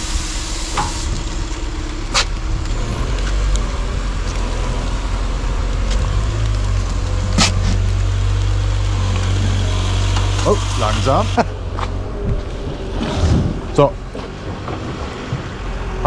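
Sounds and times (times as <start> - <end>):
forklift engine running: 0.0 - 16.0.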